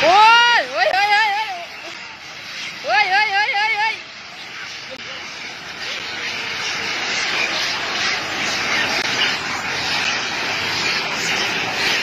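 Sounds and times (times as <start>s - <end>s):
monkeys screeching and chattering: 0.0s - 12.0s.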